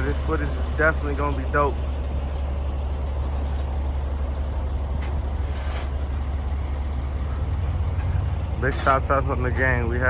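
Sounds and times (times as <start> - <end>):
large vehicle engine idling: 0.0 - 10.0.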